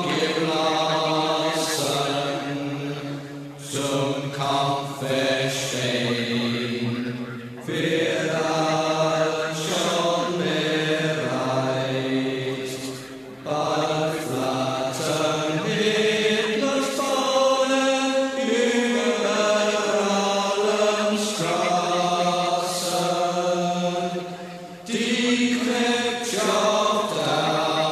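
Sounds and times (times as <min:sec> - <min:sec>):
slow chanting: 0:00.0 - 0:27.9.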